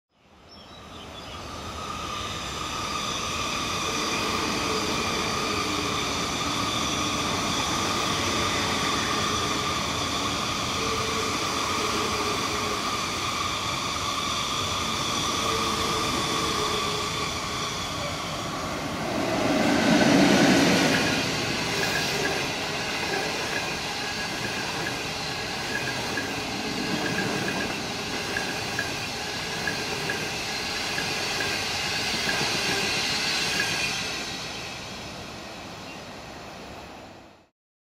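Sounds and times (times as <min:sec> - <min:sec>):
electric locomotive whine: 0:00.3 - 0:37.5
train wheels rushing on rail: 0:00.8 - 0:37.5.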